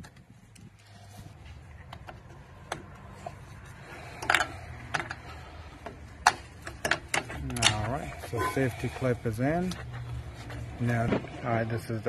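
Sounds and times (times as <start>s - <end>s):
metal clicks and scraping: 0.0s - 11.4s.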